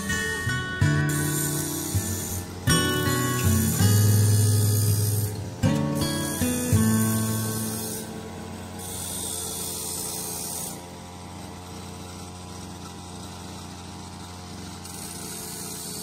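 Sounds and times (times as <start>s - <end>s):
petrol brush cutter running: 0.0s - 16.0s.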